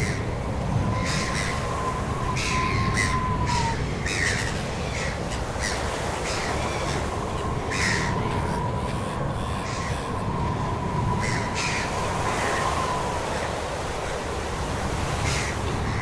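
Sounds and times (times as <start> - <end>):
crows cawing: 0.0 - 13.8, 14.9 - 16.0.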